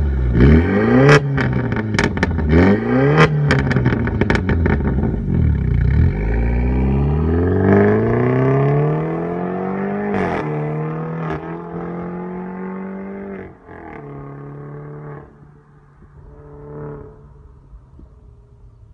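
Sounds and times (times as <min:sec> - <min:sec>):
car engine accelerating hard: 0:00.0 - 0:15.3.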